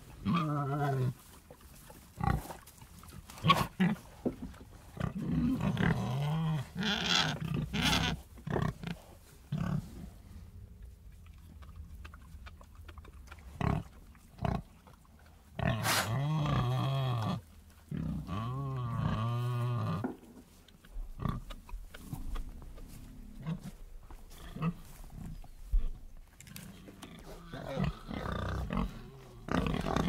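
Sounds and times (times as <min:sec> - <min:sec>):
pigs grunting: 0:00.0 - 0:01.3, 0:02.2 - 0:04.1, 0:04.9 - 0:10.2, 0:11.3 - 0:20.3, 0:21.0 - 0:30.0.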